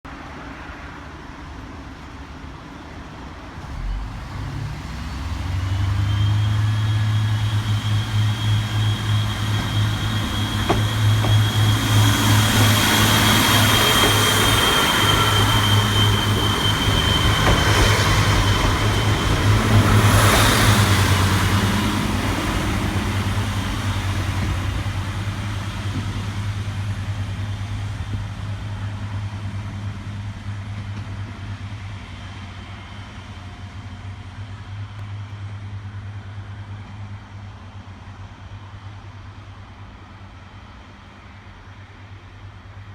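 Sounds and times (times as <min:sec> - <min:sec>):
diesel train engine drone: 0:00.1 - 0:42.9
train high whine: 0:00.1 - 0:42.9.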